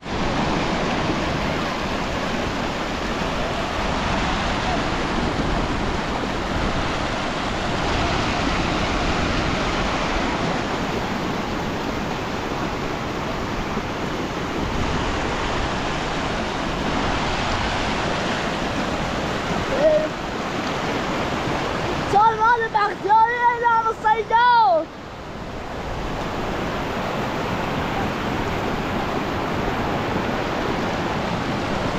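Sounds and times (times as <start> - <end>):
floodwater rushing over rocks: 0.0 - 31.9.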